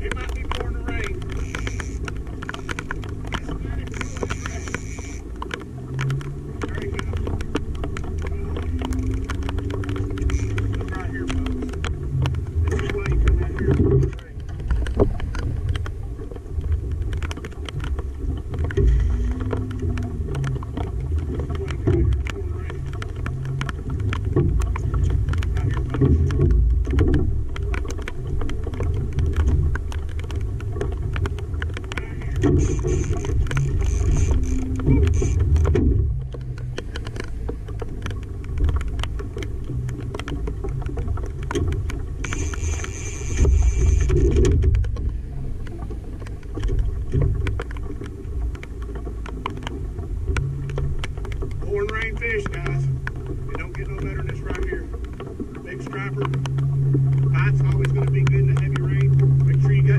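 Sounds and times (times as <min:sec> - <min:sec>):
heavy rain pattering on metal boat: 0:00.0 - 0:59.9
wind rumble on microphone: 0:00.0 - 0:59.9.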